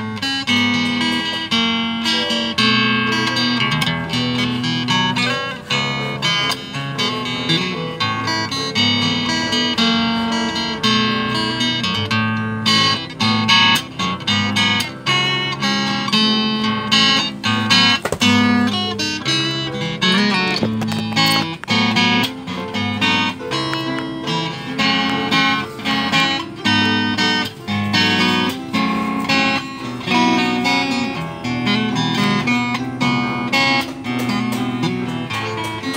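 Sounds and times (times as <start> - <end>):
amplified acoustic guitar playing: 0.0 - 35.9.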